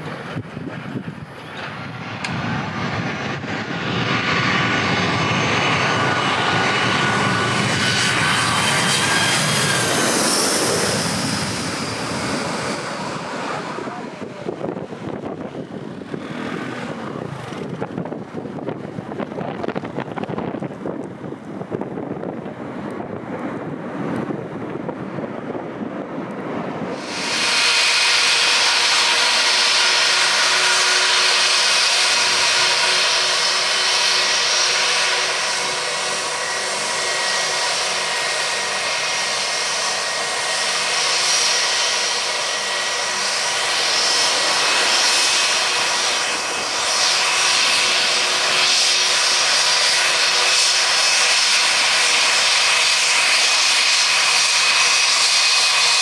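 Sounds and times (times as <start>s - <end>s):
jet engines whining: 0.0s - 56.0s
wind rumbling on microphone: 0.0s - 56.0s.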